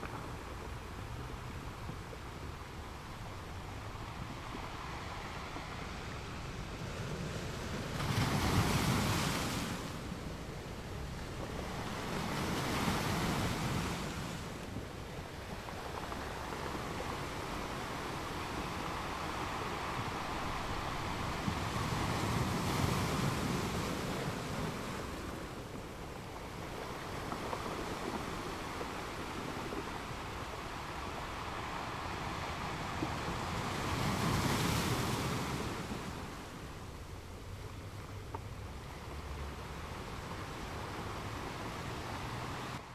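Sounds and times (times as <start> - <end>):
sea waves washing in: 0.0 - 42.9.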